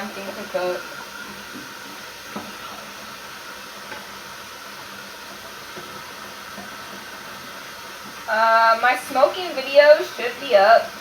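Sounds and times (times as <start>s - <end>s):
pot sizzling and simmering: 0.0s - 11.0s.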